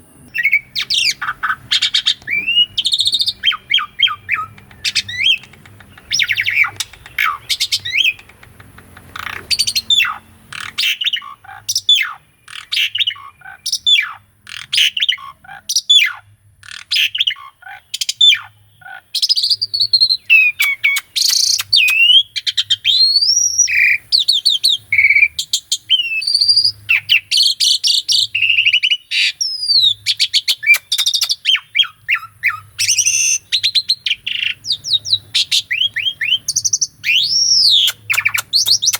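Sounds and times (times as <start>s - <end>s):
starling singing: 0.0s - 38.9s.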